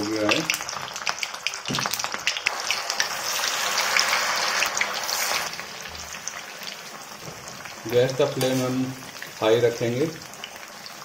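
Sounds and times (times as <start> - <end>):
hot oil sizzling and popping: 0.0 - 11.0.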